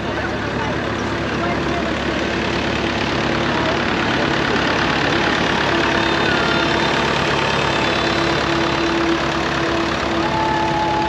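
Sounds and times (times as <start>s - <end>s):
diesel tractor engine passing: 0.0s - 11.0s
other tractor engines running: 0.0s - 11.0s.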